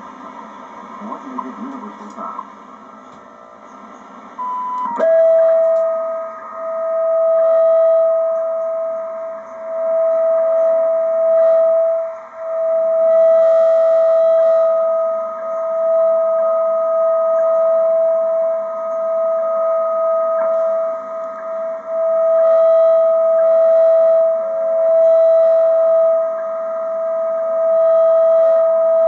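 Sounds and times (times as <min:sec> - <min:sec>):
steady radio tone: 0:00.2 - 0:29.0.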